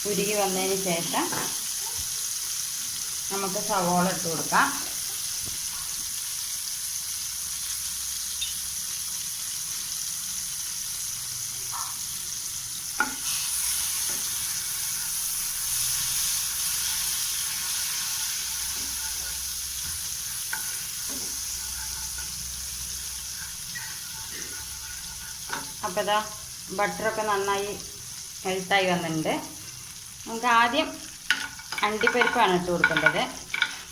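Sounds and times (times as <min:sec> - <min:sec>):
butter sizzling in a pan: 0:00.0 - 0:33.9.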